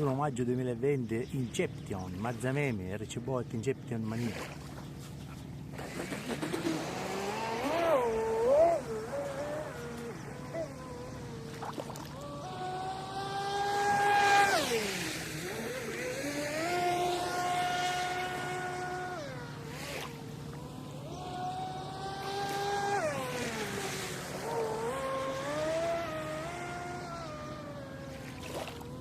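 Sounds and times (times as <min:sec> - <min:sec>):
electric motor whining: 0:05.7 - 0:29.0
hull hissing through water: 0:05.7 - 0:29.0.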